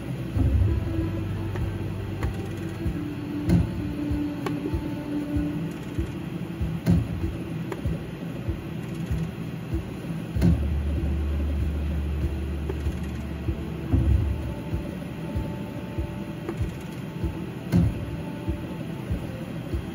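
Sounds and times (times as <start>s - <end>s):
low hum: 0.0s - 19.9s.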